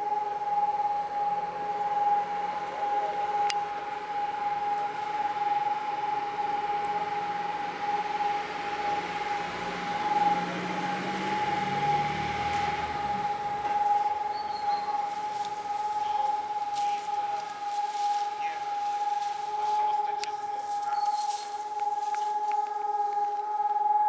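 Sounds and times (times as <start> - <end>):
air-raid siren steady tone: 0.0 - 24.0
low hum: 0.0 - 24.0.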